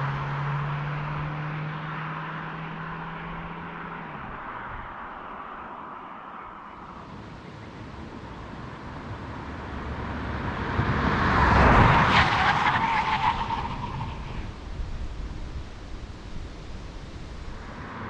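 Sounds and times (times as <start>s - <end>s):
car tyre and road noise: 0.0s - 18.0s.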